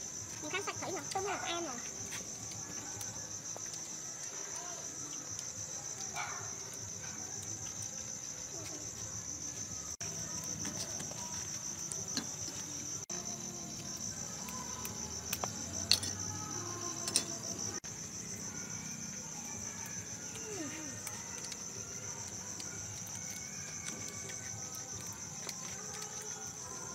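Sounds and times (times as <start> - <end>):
crickets trilling: 0.0 - 26.9.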